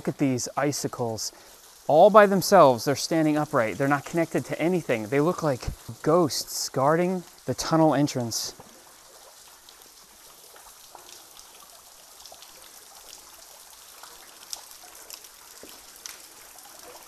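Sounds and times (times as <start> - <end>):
water drips: 0.0 - 17.0
water trickling: 0.0 - 17.0.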